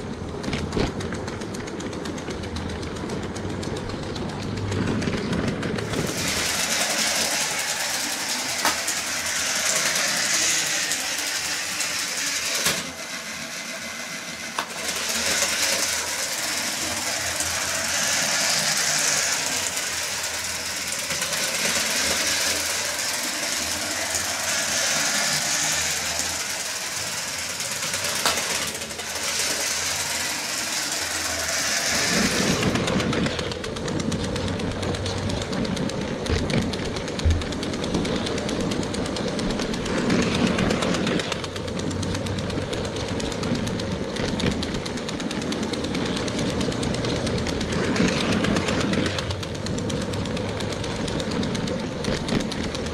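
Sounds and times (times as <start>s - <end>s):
toy train motor whirring: 0.0s - 52.9s
train wheels clattering: 0.0s - 52.9s.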